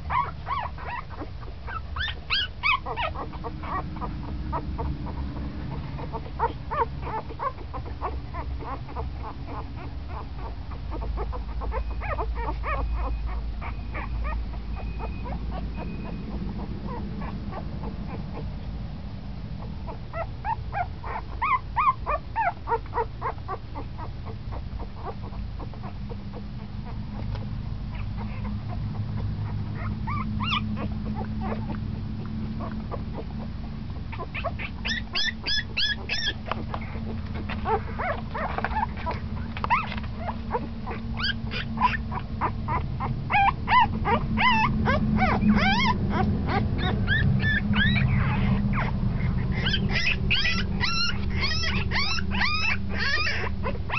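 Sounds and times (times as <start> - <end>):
puppies squeaking and whimpering: 0.0 - 18.8, 19.5 - 53.9
steady low hum: 0.0 - 53.9.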